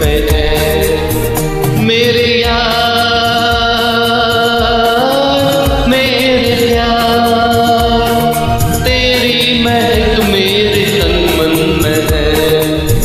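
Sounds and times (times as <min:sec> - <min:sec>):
melody of long held notes: 0:00.0 - 0:13.0
steady percussion beat: 0:00.0 - 0:13.0.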